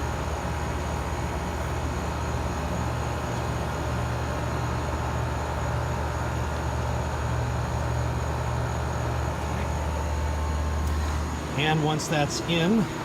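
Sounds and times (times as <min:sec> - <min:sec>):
air conditioning unit humming: 0:00.0 - 0:13.0.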